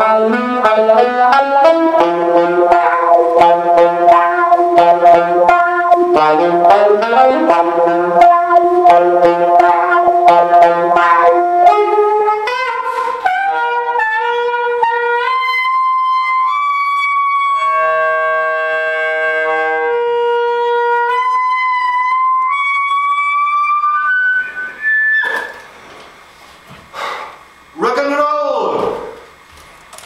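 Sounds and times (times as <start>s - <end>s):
saxophone playing: 0.0s - 25.7s.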